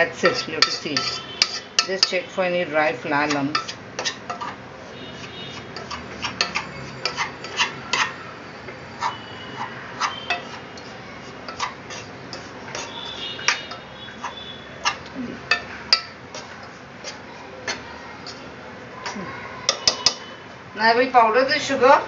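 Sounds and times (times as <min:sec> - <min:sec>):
spoon scraping and clinking on pan: 0:00.1 - 0:02.3, 0:03.2 - 0:18.5, 0:19.7 - 0:20.4.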